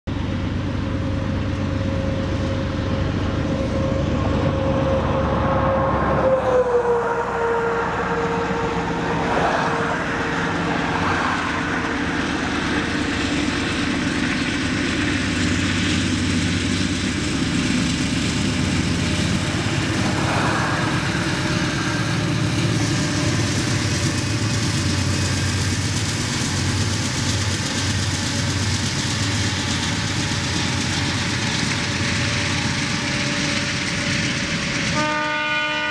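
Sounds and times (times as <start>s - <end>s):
diesel locomotive engine drone: 0.0s - 35.9s
freight cars rolling past: 0.1s - 35.0s.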